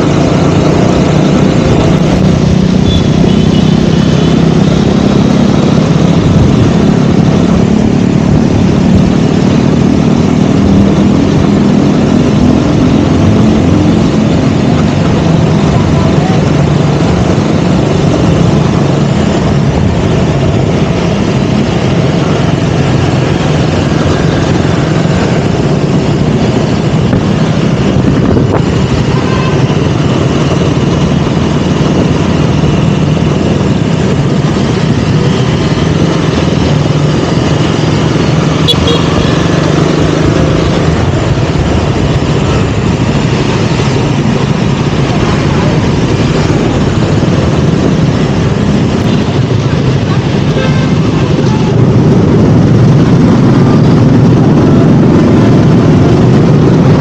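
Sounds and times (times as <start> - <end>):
constant rushing noise: 0.0 - 57.0
motorcycle engine running: 0.0 - 57.0.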